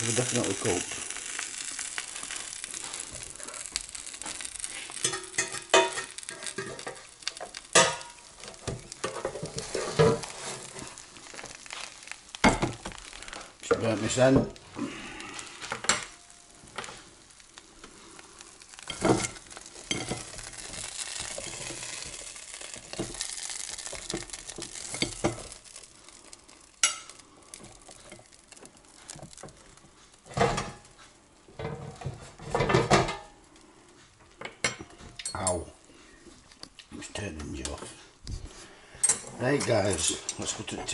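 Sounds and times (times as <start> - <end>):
food sizzling softly: 0.0 - 40.9.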